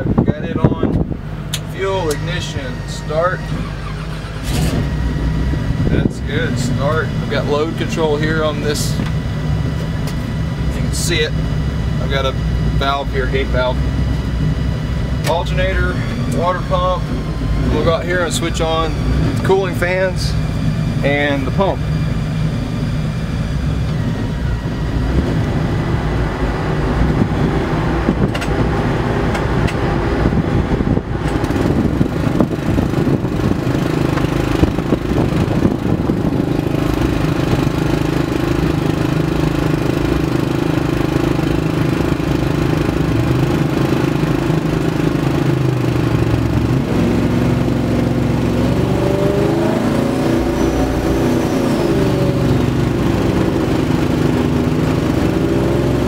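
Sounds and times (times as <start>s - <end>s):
engine running on dyno: 0.0s - 56.0s.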